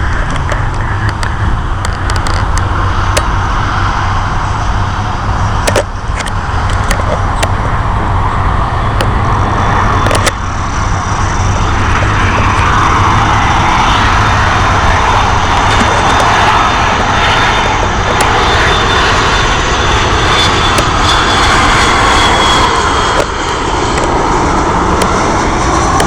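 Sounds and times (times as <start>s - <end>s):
jet airliner roar: 0.0s - 26.0s
wind rumble on microphone: 0.0s - 26.0s.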